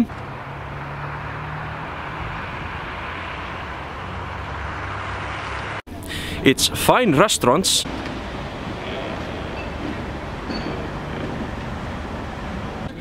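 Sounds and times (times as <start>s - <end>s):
distant road traffic hiss: 0.0s - 6.8s, 7.7s - 13.0s.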